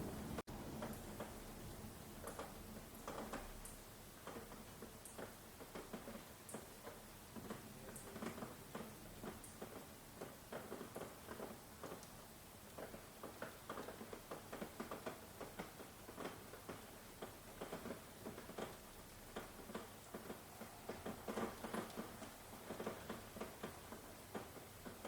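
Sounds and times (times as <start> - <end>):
raindrops pattering: 0.0 - 25.0
soft steady hiss: 0.0 - 25.0.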